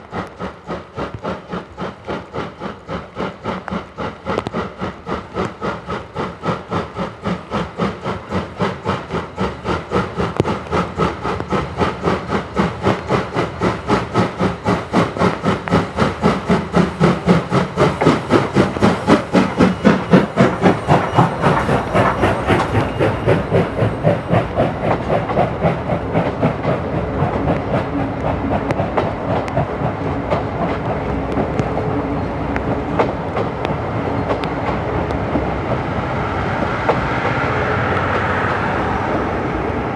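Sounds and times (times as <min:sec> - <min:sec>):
steam locomotive chuffing: 0:00.0 - 0:39.9
train wheels rattling on rails: 0:00.0 - 0:39.9.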